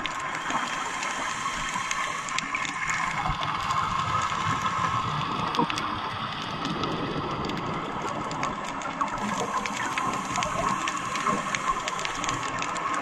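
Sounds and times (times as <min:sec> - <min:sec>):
dense crackle of fine clicks: 0:00.0 - 0:13.0.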